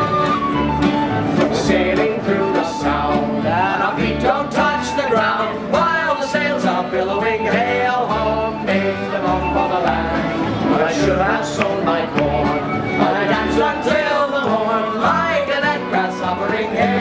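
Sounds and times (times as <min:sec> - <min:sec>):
plucked upright bass: 0:00.0 - 0:17.0
strummed acoustic guitar: 0:00.0 - 0:17.0
men singing together: 0:01.4 - 0:17.0.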